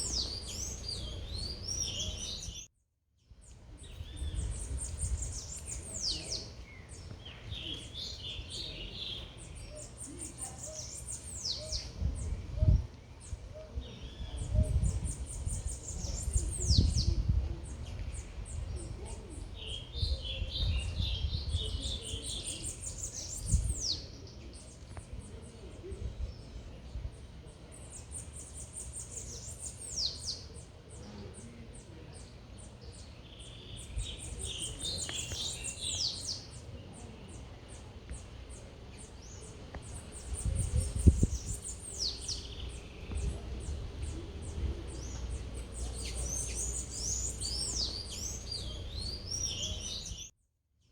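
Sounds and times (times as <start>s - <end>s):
low city rumble: 0.0s - 2.6s, 3.5s - 50.3s
songbird singing: 0.0s - 50.4s.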